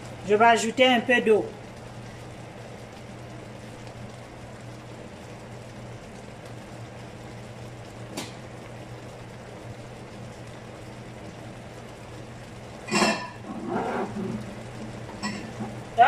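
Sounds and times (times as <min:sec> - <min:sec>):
pots simmering and bubbling: 0:00.0 - 0:16.0.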